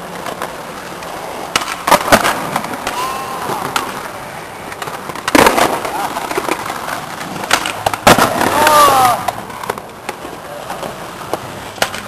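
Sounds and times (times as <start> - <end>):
skateboard clacking on ground: 0.0 - 12.0
skateboard wheels rolling on concrete: 0.0 - 12.0.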